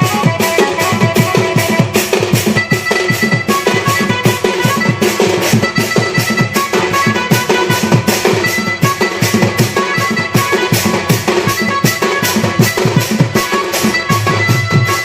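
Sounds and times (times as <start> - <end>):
fast driving drum beats: 0.0 - 15.0.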